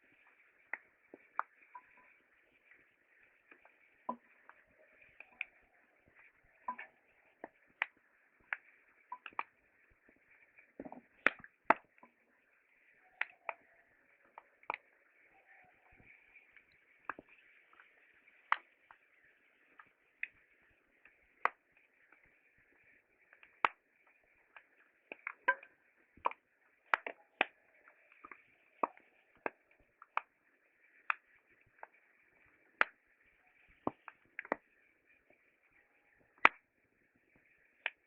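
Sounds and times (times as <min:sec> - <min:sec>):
wood fire crackling: 0:00.0 - 0:15.3, 0:15.9 - 0:38.0
faint steady hiss: 0:00.0 - 0:38.0.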